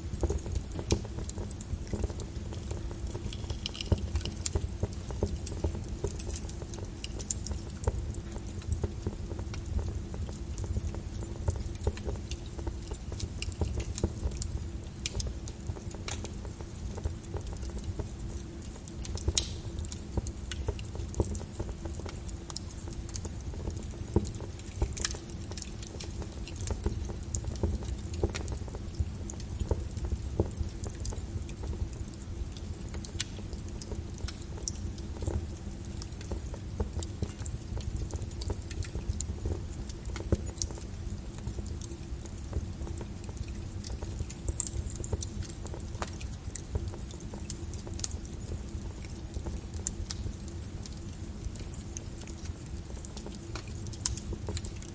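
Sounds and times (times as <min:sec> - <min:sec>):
low steady rumble: 0:00.0 - 0:54.7
wood fire crackling: 0:00.0 - 0:54.9.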